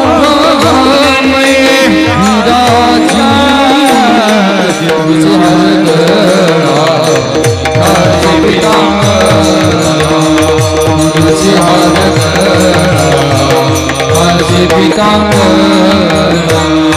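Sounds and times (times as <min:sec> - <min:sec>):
person singing verses: 0:00.0 - 0:16.9.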